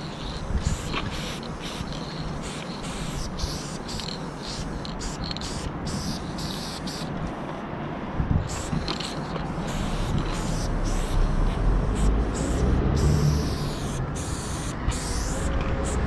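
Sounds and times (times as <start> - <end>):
spray paint can hissing: 0.0 - 7.4, 8.4 - 16.0.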